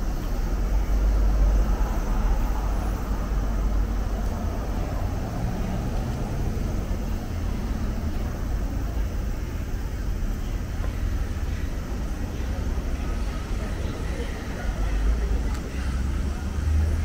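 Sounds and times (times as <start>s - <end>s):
steady road traffic: 0.0s - 17.0s.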